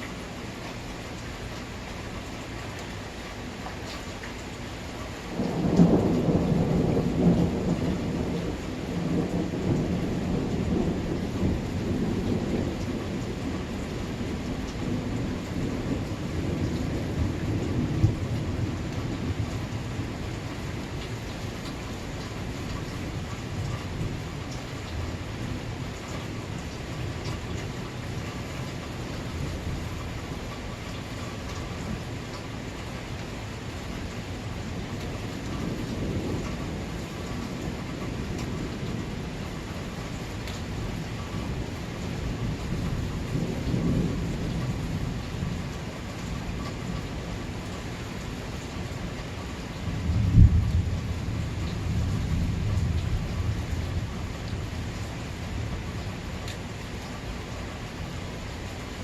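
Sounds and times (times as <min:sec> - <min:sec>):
steady rain: 0:00.0 - 0:59.0
thunder rumbling: 0:05.3 - 0:32.8, 0:33.7 - 0:47.7, 0:49.8 - 0:56.6.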